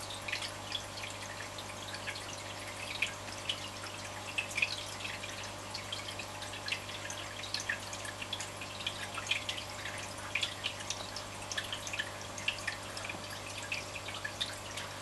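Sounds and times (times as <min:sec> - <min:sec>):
water bubbling and dripping: 0:00.0 - 0:15.0.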